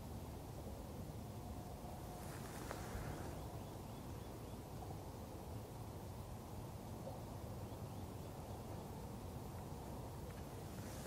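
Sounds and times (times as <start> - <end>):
low rumble with light hiss: 0.0 - 11.0.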